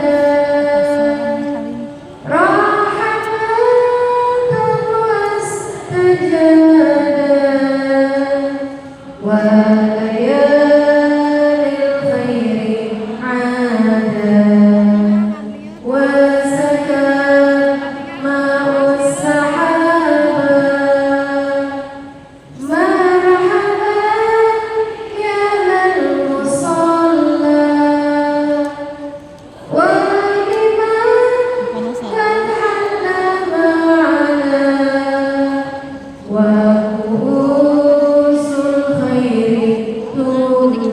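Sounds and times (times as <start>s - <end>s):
woman singing unaccompanied: 0.0s - 40.9s.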